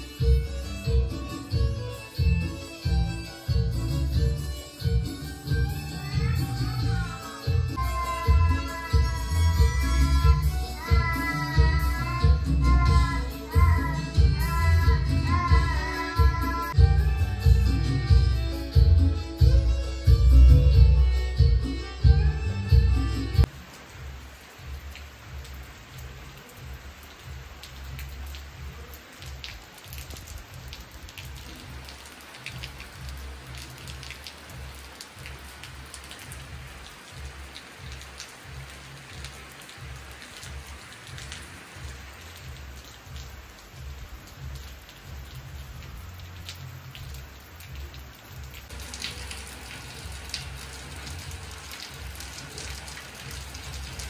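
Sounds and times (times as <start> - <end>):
rain on paving and plants: 0.0 - 54.0.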